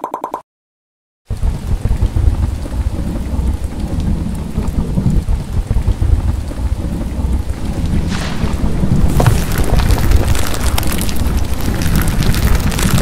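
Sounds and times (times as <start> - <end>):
deep rumbling thunder: 1.3 - 13.0
heavy rain pouring: 1.3 - 13.0.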